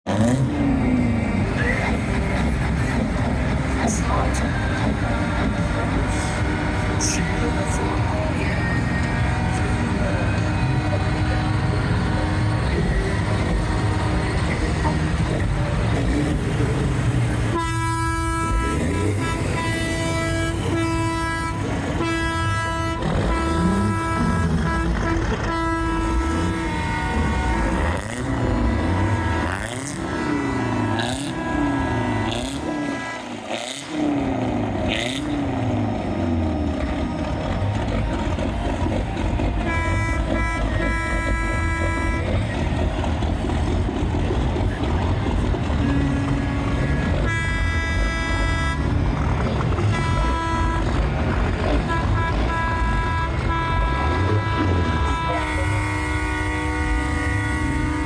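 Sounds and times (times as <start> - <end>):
heavy truck engines rumbling: 0.0 - 58.0
truck horn blasts: 0.0 - 58.0.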